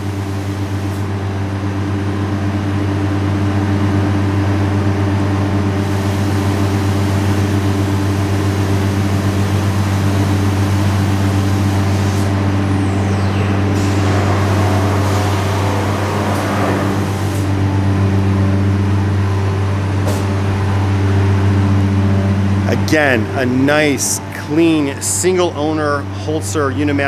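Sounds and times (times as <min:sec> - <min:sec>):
faint high spindle whine: 0:00.0 - 0:27.0
router mechanical hum: 0:00.0 - 0:27.0.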